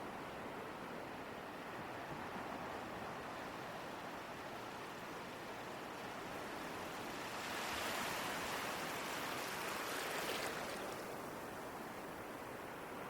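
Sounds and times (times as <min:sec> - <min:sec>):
ocean waves breaking: 0:01.7 - 0:13.0.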